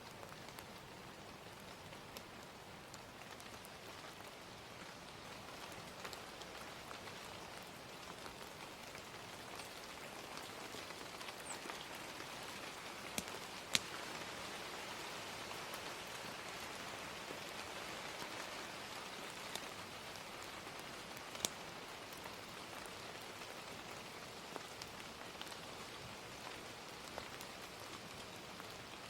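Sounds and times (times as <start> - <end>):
gentle rain: 0.0 - 29.0.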